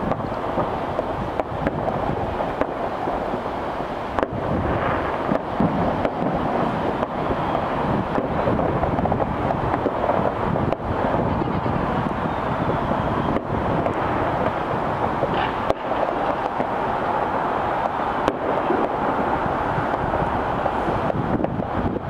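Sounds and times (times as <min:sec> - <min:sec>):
distant fireworks bangs and pops: 0:00.0 - 0:22.0
wind on microphone: 0:00.0 - 0:22.0.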